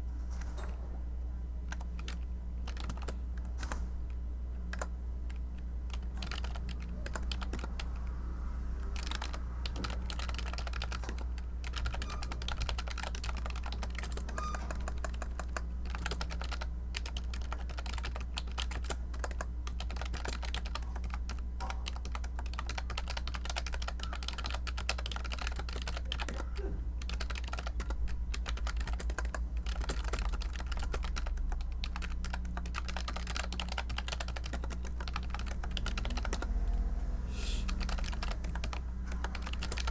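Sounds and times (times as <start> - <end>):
steady low hum: 0.0 - 39.9
computer keyboard typing: 1.7 - 8.2, 8.8 - 36.8, 37.6 - 39.9.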